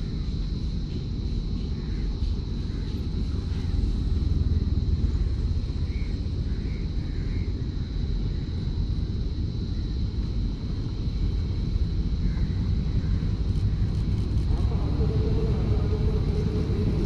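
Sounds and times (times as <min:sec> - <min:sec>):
distant train rumble: 0:00.0 - 0:17.0
thin high whine: 0:00.0 - 0:17.0.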